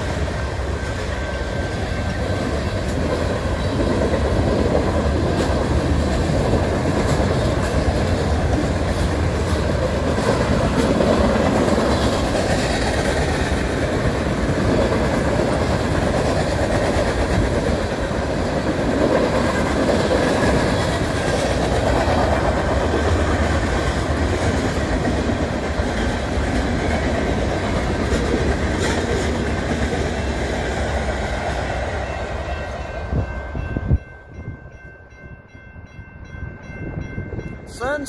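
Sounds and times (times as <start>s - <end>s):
freight train rumbling past: 0.0s - 38.0s.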